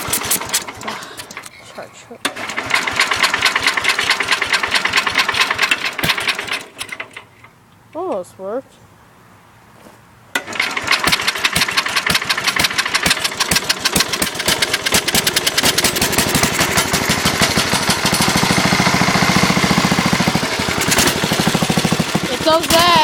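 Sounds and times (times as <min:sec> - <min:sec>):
small engine running unevenly: 0:00.0 - 0:01.6, 0:02.2 - 0:07.3, 0:10.4 - 0:23.0.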